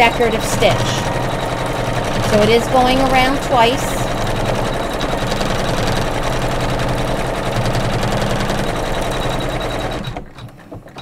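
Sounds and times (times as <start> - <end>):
embroidery machine stitching: 0.0 - 11.0.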